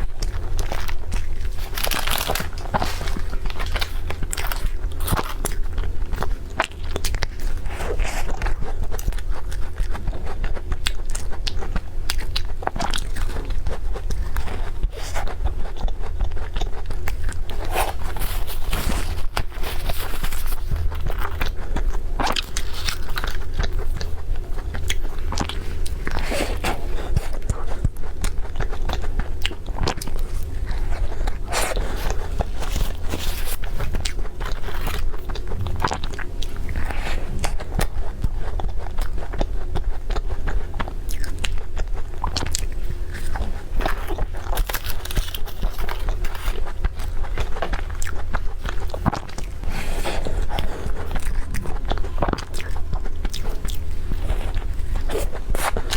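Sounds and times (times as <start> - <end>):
crunchy bites and chewing: 0.0 - 55.9
steady low hum: 0.0 - 55.9.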